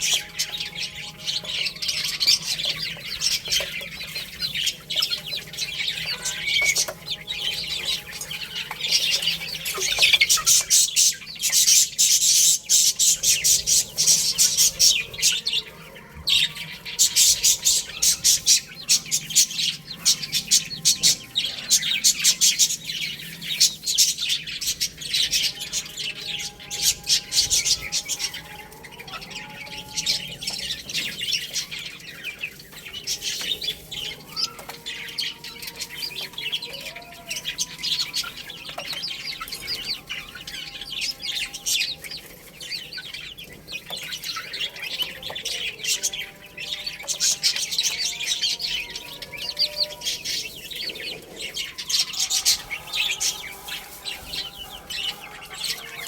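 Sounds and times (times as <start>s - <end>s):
baby chicks chirping: 0.0s - 56.0s.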